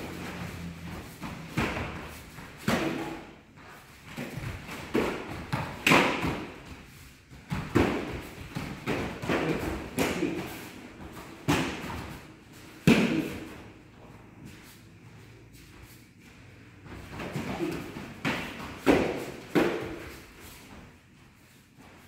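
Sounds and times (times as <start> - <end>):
feet striking foam mat: 0.0 - 14.8, 15.5 - 22.0.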